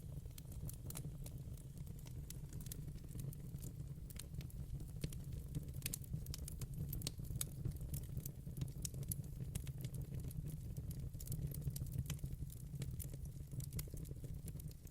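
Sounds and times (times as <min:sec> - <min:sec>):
fire crackling and popping: 0:00.0 - 0:14.9
low rumble of flames: 0:00.0 - 0:14.9.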